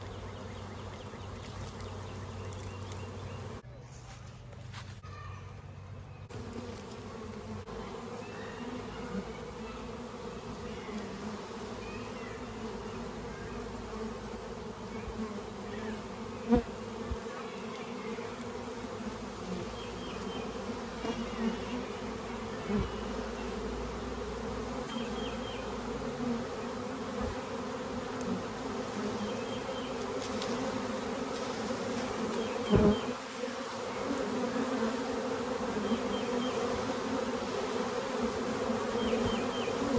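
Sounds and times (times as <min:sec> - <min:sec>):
honeybees buzzing: 0:00.0 - 0:03.6, 0:06.0 - 0:39.9.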